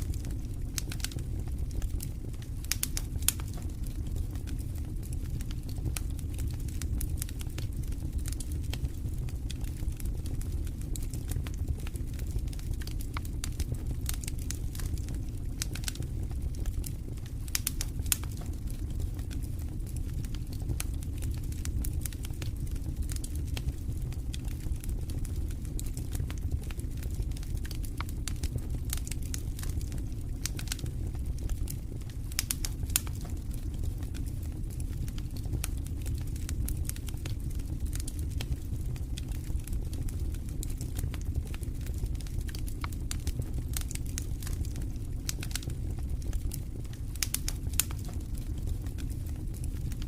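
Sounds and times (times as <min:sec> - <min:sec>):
campfire crackling: 0:00.0 - 0:50.0
low steady rumble: 0:00.0 - 0:50.0.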